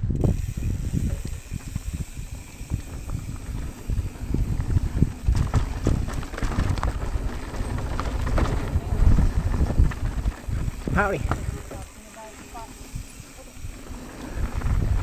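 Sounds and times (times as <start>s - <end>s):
bike knocking and rattling: 0.0s - 15.0s
bike tyres rumbling over dirt: 0.0s - 15.0s.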